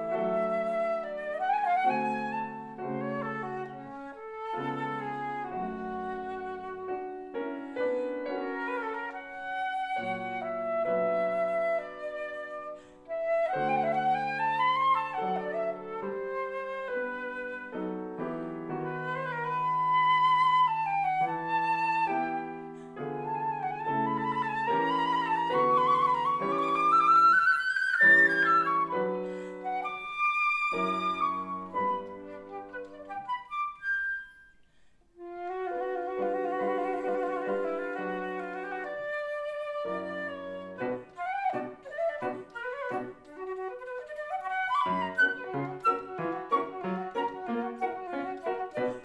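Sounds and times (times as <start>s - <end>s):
piano chords: 0.0s - 33.7s, 35.2s - 49.0s
flute melody: 0.0s - 49.0s.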